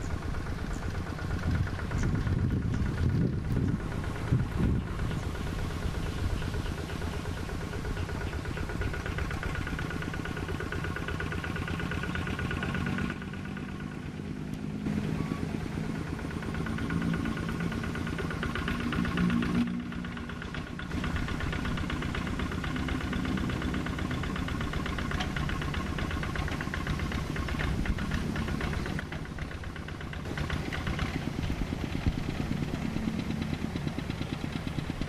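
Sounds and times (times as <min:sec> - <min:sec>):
hand tractor diesel engine running: 0:00.0 - 0:35.0.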